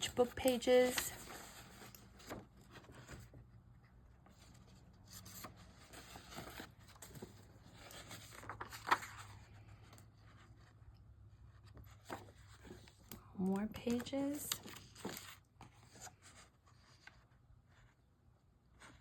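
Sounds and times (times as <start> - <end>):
paper pages rustling: 0.0 - 10.8, 11.5 - 18.0.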